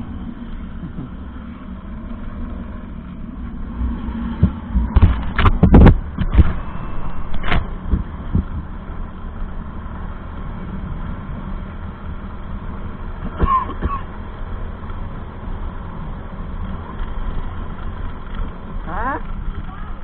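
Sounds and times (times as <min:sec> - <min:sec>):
low vehicle engine rumble: 0:00.0 - 0:20.0.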